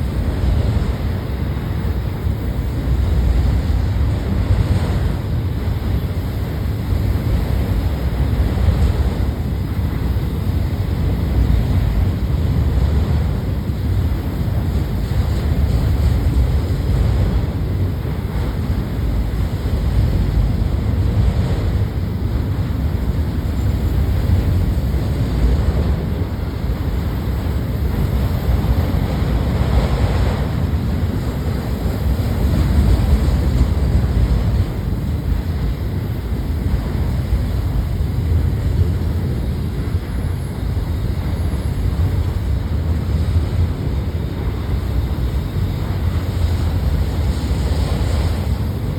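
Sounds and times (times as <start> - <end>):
freight train rumbling past: 0.0 - 48.9
wind buffeting microphone: 0.0 - 48.9.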